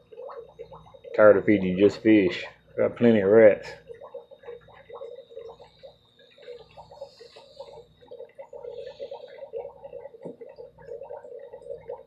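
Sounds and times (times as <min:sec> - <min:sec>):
water bubbling and gurgling: 0:00.0 - 0:12.0.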